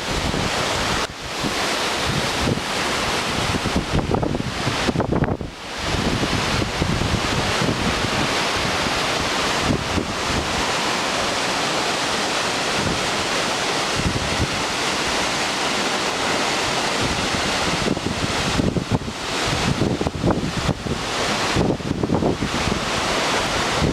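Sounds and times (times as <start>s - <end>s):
waterfall roar: 0.0s - 23.9s
wind buffeting microphone: 0.0s - 23.9s.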